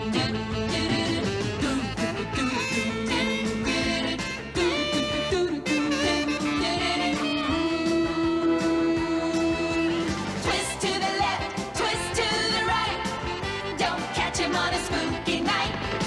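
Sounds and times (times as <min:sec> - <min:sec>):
upbeat instrumental cartoon music: 0:00.0 - 0:16.0.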